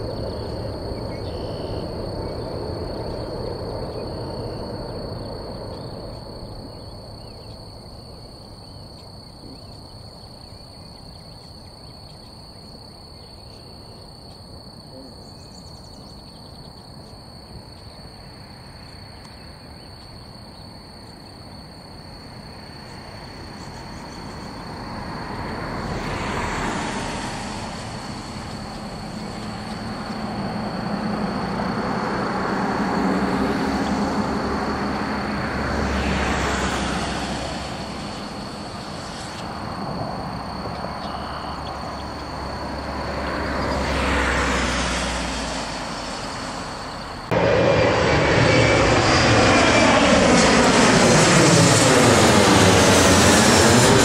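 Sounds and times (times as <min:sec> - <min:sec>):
distant jet airliner rumble: 0:00.0 - 0:54.0.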